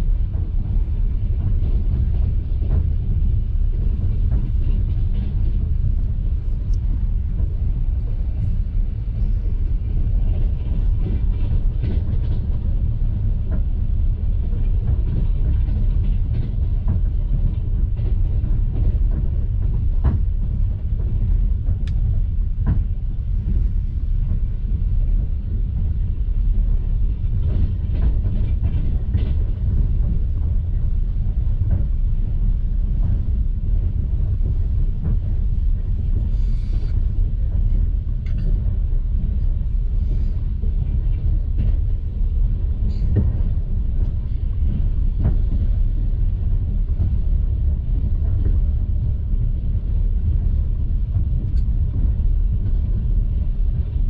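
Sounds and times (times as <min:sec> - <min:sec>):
train carriage rumbling on rails: 0:00.0 - 0:54.0.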